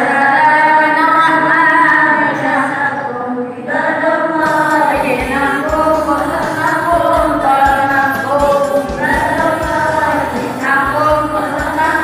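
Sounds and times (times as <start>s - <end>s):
group chanting a prayer: 0.0s - 12.0s.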